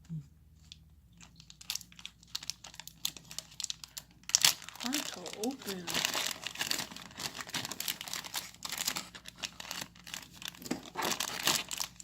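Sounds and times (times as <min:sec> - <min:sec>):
plastic packaging crinkling and tearing: 0:00.6 - 0:12.0.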